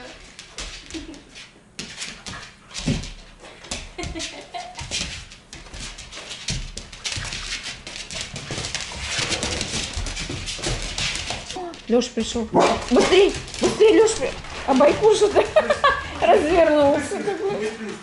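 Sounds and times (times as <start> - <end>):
dogs scuffling: 0.0 - 18.0
dog claws clicking and scrabbling: 0.3 - 17.0.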